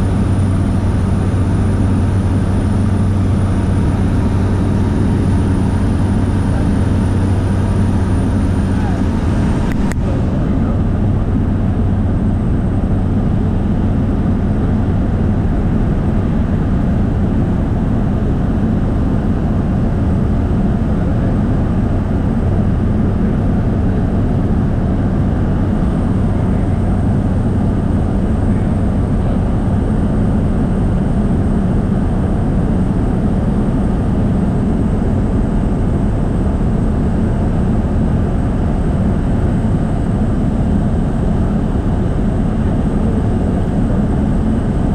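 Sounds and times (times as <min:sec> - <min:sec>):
propeller aircraft engine drone: 0:00.0 - 0:44.9.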